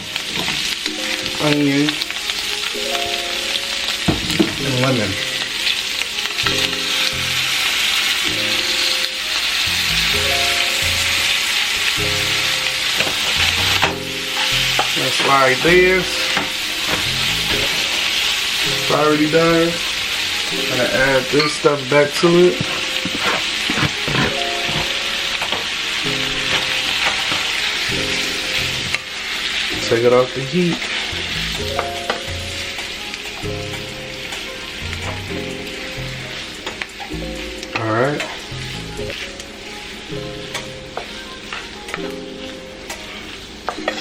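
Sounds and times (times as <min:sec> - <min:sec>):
background music with low notes: 0:00.0 - 0:44.0
lobster sizzling in butter: 0:00.0 - 0:44.0.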